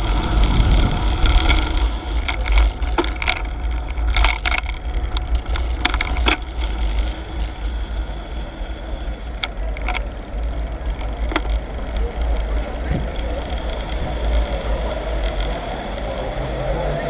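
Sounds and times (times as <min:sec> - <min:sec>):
short clicks and rattles: 0:00.0 - 0:08.4, 0:09.0 - 0:15.5
wind buffeting microphone: 0:00.0 - 0:15.8.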